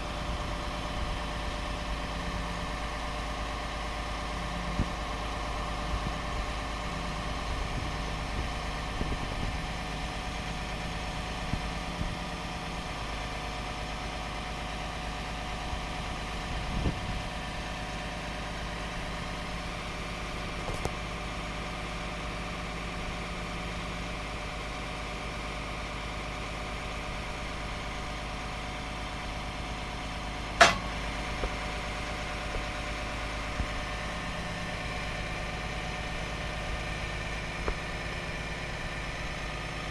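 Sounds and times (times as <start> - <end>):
diesel engine idling: 0.0 - 39.9
hydraulic crane whine: 0.0 - 39.9.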